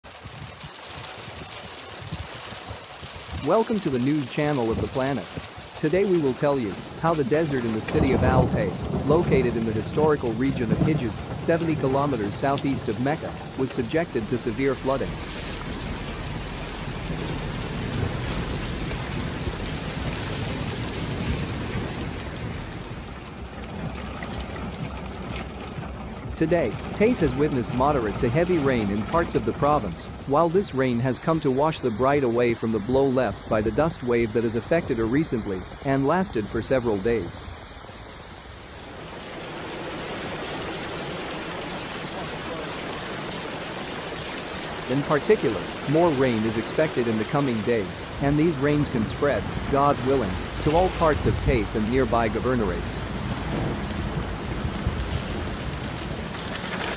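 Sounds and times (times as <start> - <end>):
heavy rain hissing: 0.0 - 23.8, 26.4 - 56.9
running water: 0.0 - 56.9
raindrop taps: 0.1 - 30.2, 39.3 - 56.9.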